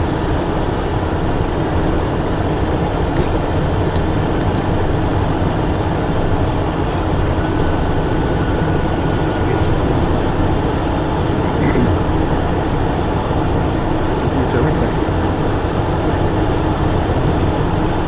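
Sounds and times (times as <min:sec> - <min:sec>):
jet engines rushing in cockpit: 0:00.0 - 0:18.0.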